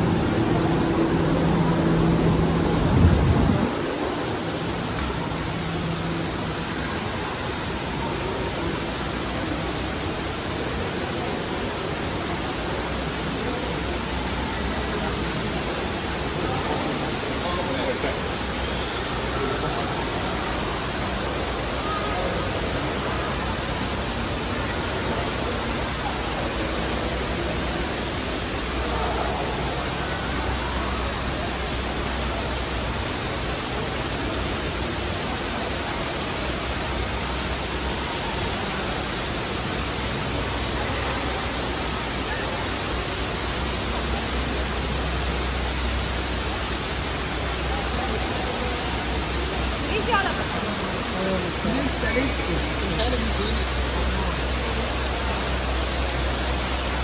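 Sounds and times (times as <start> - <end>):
faint crowd chatter: 0.0 - 57.0
steady rushing noise: 0.0 - 57.0.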